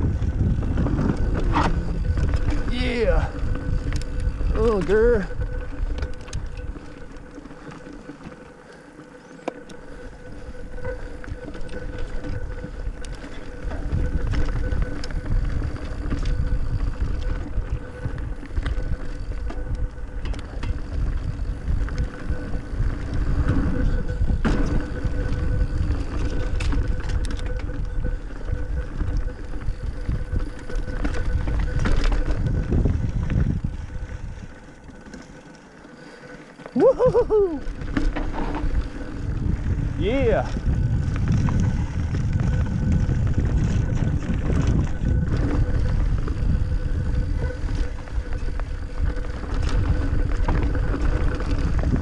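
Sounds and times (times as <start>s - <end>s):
wind buffeting microphone: 0.0s - 8.2s, 9.2s - 35.0s, 36.7s - 52.0s
bike clicks and rattles: 0.0s - 52.0s
trail rumble: 0.0s - 52.0s.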